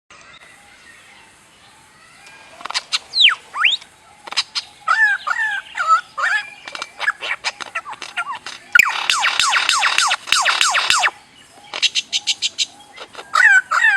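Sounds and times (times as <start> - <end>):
birds calling: 0.2 - 13.9.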